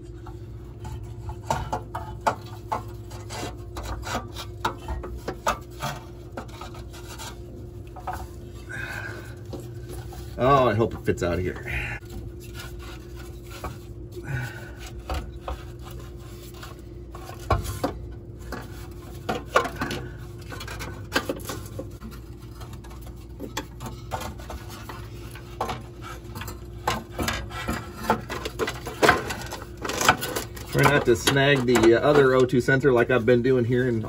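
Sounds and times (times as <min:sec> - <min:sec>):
steady hum: 0:00.0 - 0:34.0
metal parts scraping and knocking: 0:00.2 - 0:33.3.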